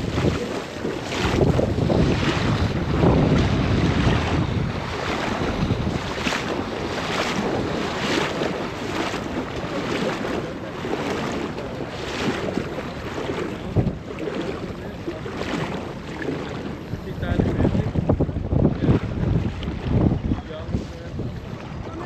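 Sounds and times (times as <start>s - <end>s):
legs wading through water: 0.0s - 22.0s
water sloshing: 0.0s - 22.0s
wind buffeting microphone: 0.0s - 22.0s.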